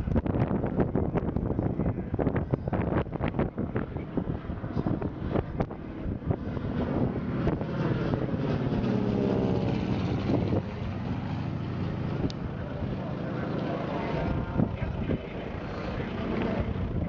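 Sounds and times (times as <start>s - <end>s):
propeller plane flying past: 0.0s - 17.0s
wind buffeting microphone: 0.0s - 17.0s.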